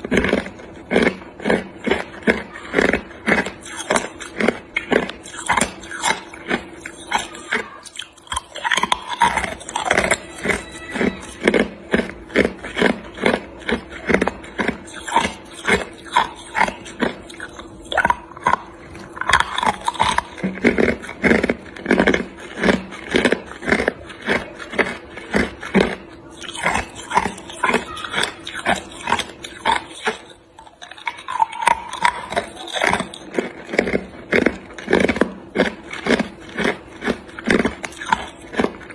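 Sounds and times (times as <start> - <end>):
ice cubes crunched by teeth: 0.0 - 38.9.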